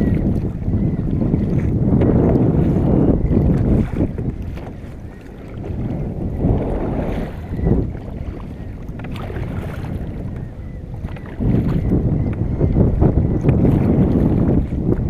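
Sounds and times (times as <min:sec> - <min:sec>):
water sloshing against hull: 0:00.0 - 0:15.0
wind buffeting microphone: 0:00.0 - 0:15.0.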